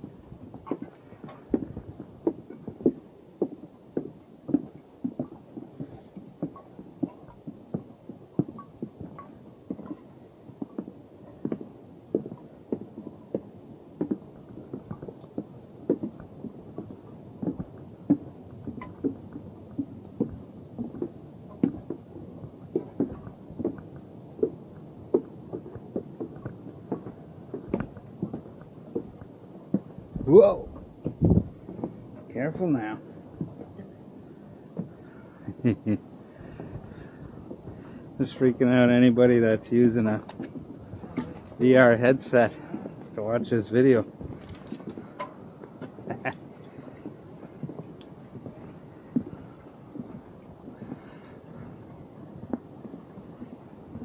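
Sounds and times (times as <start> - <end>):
footsteps on wooden boardwalk: 0.0 - 54.0.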